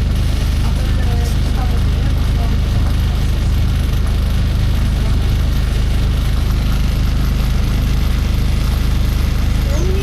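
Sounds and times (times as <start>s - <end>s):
bus diesel engine droning: 0.0s - 10.0s.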